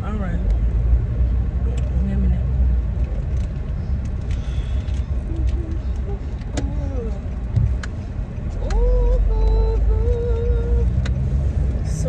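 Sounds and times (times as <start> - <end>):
low car cabin rumble: 0.0 - 12.0.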